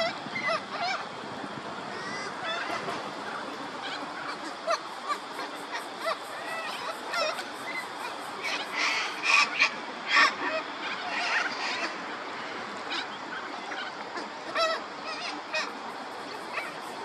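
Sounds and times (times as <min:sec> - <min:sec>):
waterfowl calling: 0:01.8 - 0:17.0.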